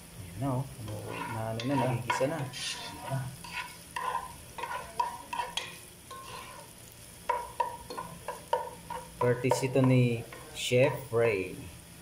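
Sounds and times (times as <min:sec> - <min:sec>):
garlic and onion frying in oil: 0:00.0 - 0:12.0
spatula scraping a pan: 0:00.8 - 0:11.1.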